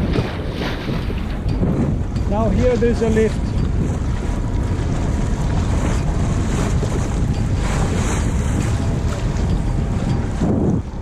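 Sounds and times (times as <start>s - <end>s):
water rushing past hull: 0.0s - 11.0s
wind buffeting microphone: 0.0s - 11.0s.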